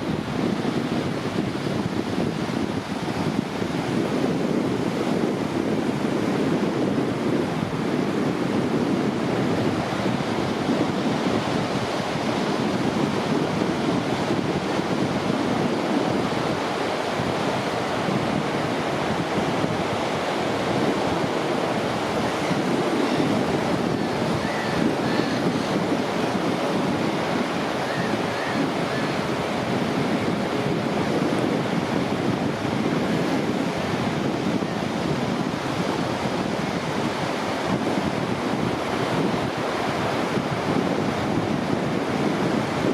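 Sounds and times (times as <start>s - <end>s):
ocean surf breaking: 0.0s - 42.9s
wind rumbling on microphone: 0.0s - 42.9s.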